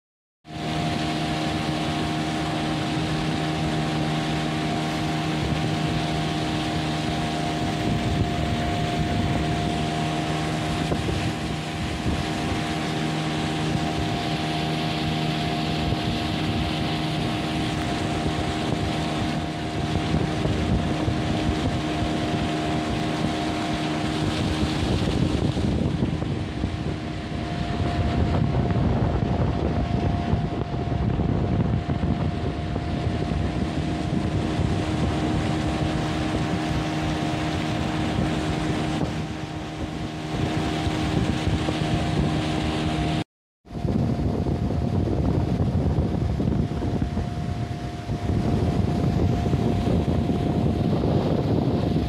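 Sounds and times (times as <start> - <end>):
boat motor humming: 0.4 - 52.0
rushing water: 0.5 - 52.0
wind on microphone: 0.6 - 52.0.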